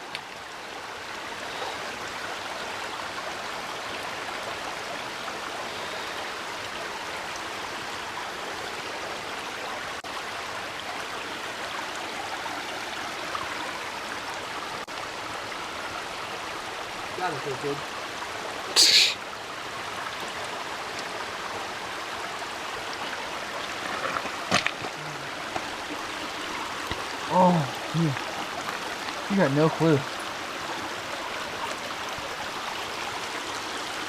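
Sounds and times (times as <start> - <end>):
small river flowing: 0.0 - 34.0.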